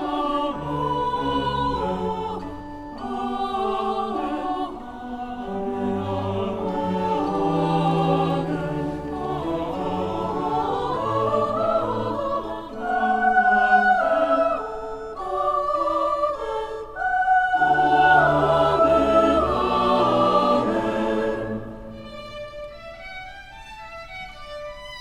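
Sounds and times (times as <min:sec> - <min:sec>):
orchestra playing: 0:00.0 - 0:16.1, 0:17.5 - 0:25.0
choir singing held chords: 0:00.0 - 0:25.0.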